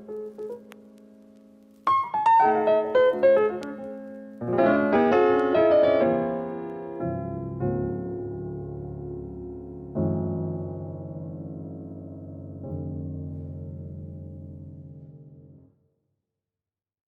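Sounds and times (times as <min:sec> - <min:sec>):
piano music: 0:00.0 - 0:15.7.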